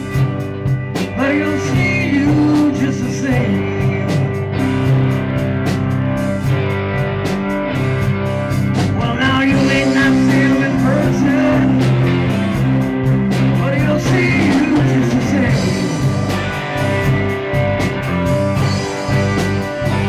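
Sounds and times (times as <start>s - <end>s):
bass guitar: 0.0s - 20.0s
drum kit beat: 0.0s - 20.0s
electric guitar: 0.0s - 20.0s
keyboard: 0.0s - 20.0s.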